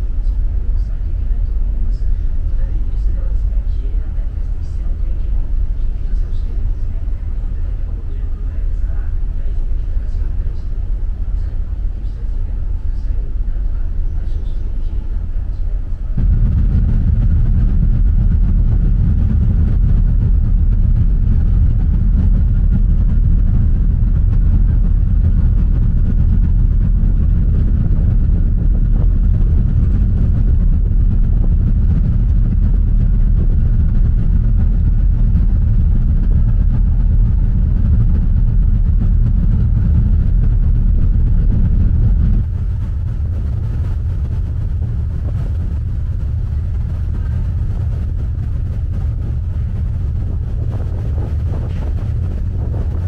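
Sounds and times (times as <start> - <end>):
ferry engines rumbling: 0.0 - 53.0
propellers churning water: 0.0 - 53.0.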